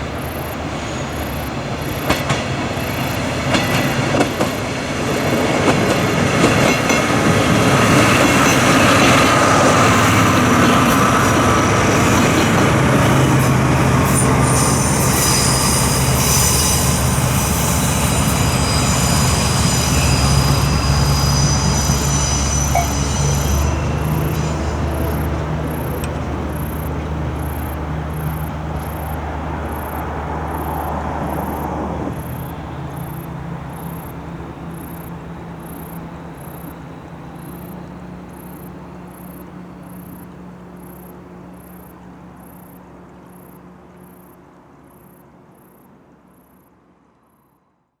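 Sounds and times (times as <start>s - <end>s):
crossing alarm dinging: 0.0s - 45.8s
train rumbling over crossing: 0.0s - 47.1s.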